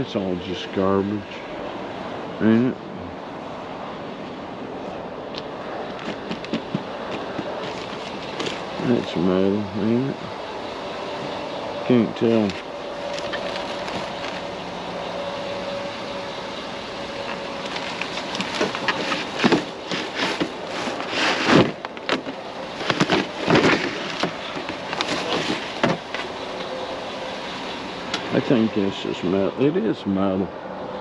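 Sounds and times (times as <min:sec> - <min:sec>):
vehicle engine running: 0:04.8 - 0:31.0.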